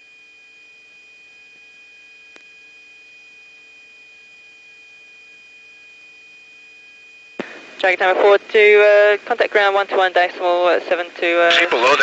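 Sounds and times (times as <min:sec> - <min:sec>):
electrical hum and high whine: 0:00.0 - 0:12.0.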